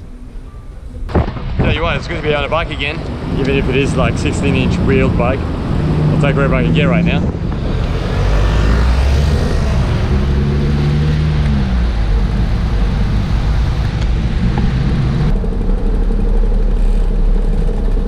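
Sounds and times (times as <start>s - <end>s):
road traffic passing: 0.0s - 18.0s
vehicle engine hum: 0.0s - 18.0s
wind rumble on microphone: 1.1s - 18.0s.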